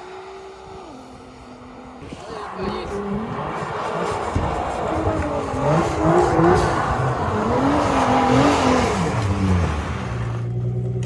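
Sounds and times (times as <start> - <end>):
rush of noise: 0.0 - 10.4
car engine revving: 0.0 - 11.0.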